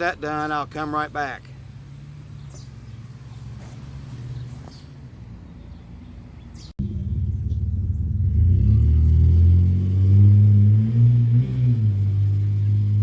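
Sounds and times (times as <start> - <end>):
low engine rumble: 0.2 - 13.0.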